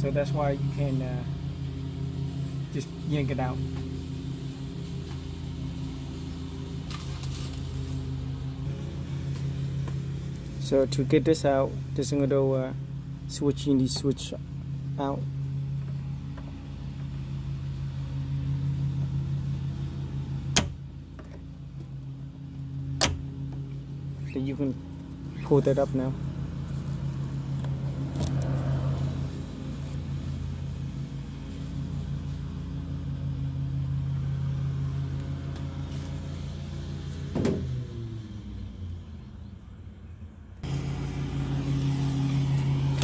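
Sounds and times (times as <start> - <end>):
low engine hum: 0.0 - 43.0.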